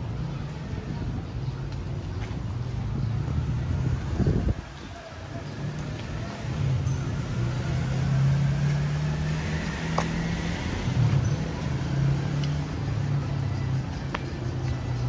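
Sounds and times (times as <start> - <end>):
street traffic: 0.0 - 15.0
vehicle engine humming: 0.0 - 15.0.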